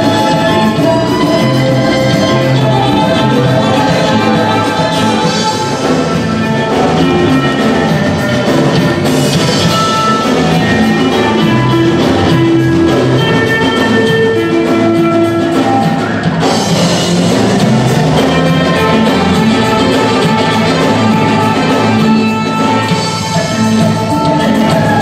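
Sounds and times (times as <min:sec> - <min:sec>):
loud dance music from a band: 0:00.0 - 0:25.0.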